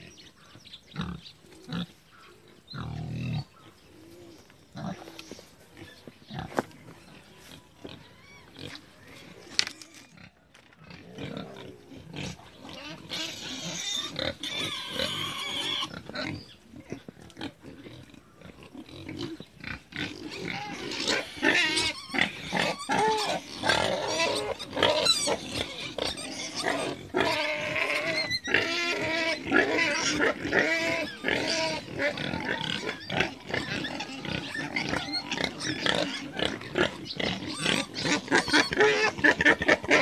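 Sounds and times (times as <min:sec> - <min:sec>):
pigs grunting and squealing: 0:00.0 - 0:40.0.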